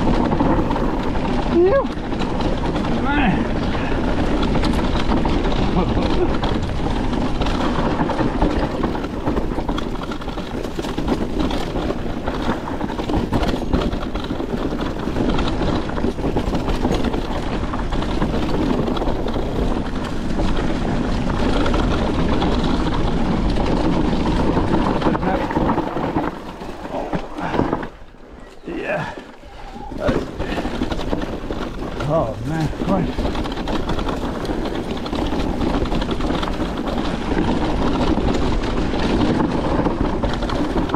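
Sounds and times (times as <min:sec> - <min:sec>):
bike knocking and rattling: 0:00.0 - 0:40.9
tyres rolling on dirt: 0:00.0 - 0:40.9
wind noise on microphone: 0:00.0 - 0:40.9.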